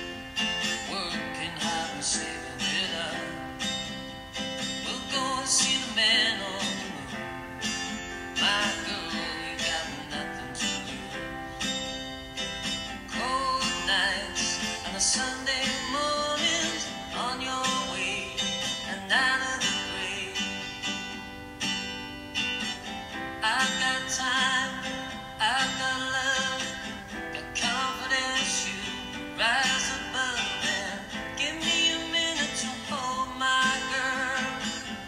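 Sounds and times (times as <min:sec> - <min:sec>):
plucked guitar music: 0:00.0 - 0:35.0.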